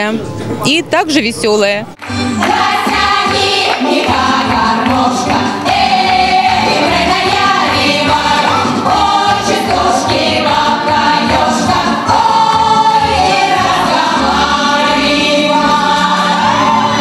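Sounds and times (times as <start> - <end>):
women singing into microphones: 2.4 - 17.0.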